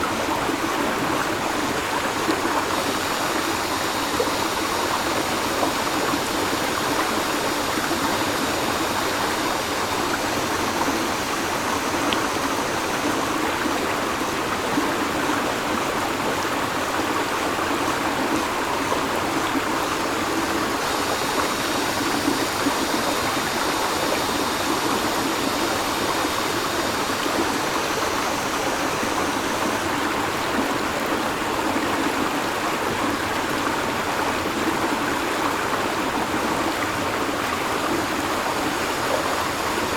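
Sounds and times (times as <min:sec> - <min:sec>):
river water flowing: 0:00.0 - 0:39.9
cicadas droning: 0:00.1 - 0:39.9.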